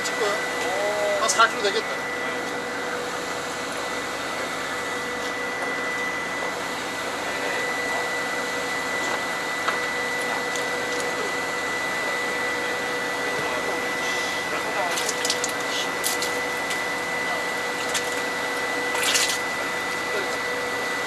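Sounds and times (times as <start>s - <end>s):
boat machinery drone: 0.0s - 21.0s
high whine: 0.0s - 21.0s.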